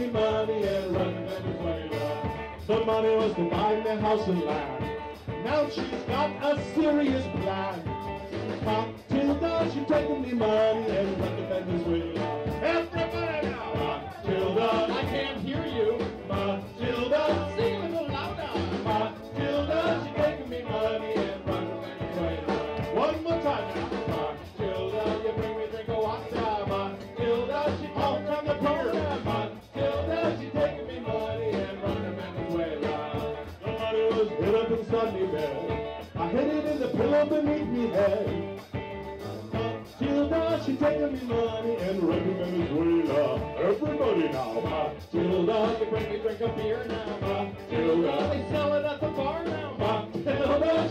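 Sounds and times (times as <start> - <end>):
drum kit: 0.0 - 50.9
electric guitar: 0.0 - 50.9
live calypso band: 0.0 - 50.9.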